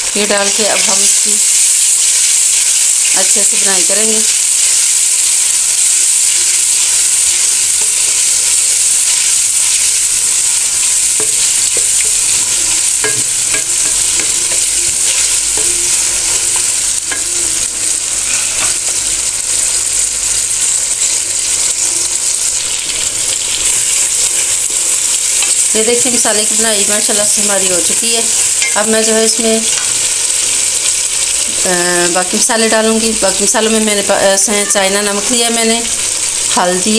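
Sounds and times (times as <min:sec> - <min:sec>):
masala sizzling in a pan: 0:00.0 - 0:36.9.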